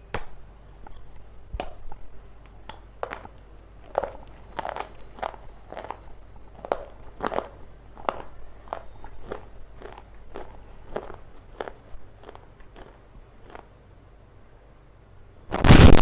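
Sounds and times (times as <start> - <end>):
crunchy chewing: 0.8 - 13.8.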